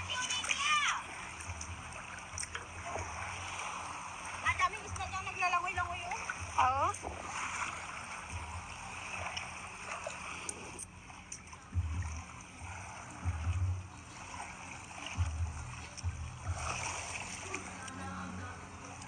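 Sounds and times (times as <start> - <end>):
seawater washing over rocks: 0.0 - 19.0.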